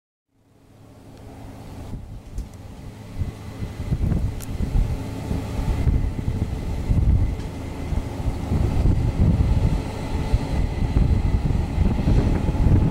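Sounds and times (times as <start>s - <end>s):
diesel engine rumbling: 0.4s - 12.9s
wind buffeting microphone: 1.2s - 12.9s.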